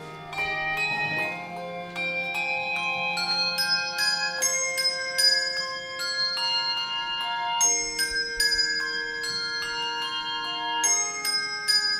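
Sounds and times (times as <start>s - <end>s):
handbells ringing: 0.0s - 11.9s.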